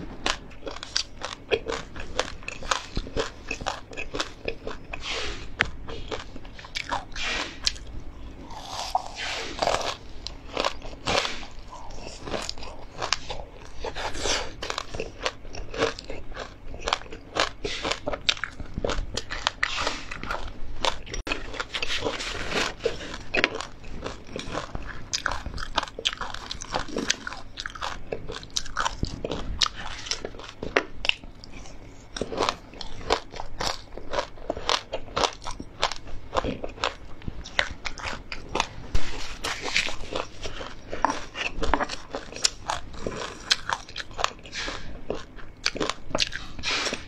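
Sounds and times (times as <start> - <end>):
crunching and chewing: 0.0 - 47.0.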